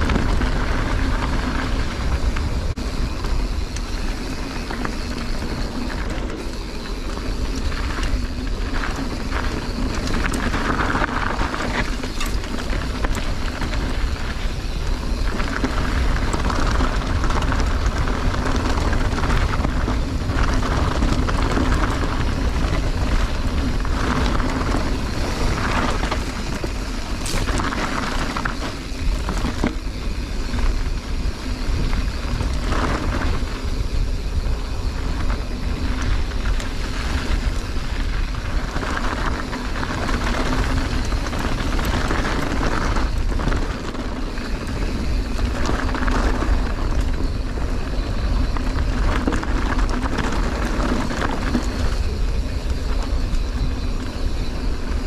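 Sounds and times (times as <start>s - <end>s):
bike rattling and clicking: 0.0s - 55.0s
tyres crunching on gravel: 0.0s - 55.0s
wind rumbling on microphone: 0.0s - 55.0s.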